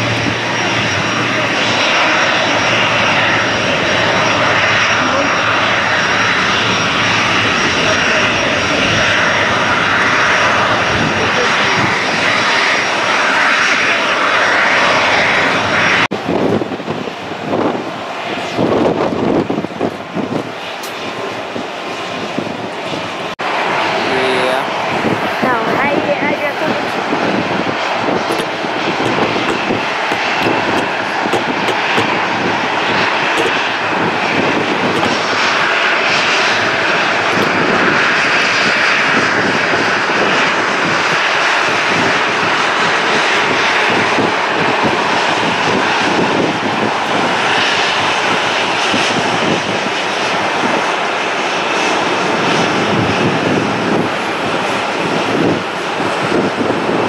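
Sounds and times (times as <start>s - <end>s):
jet engines taxiing: 0.0s - 57.0s.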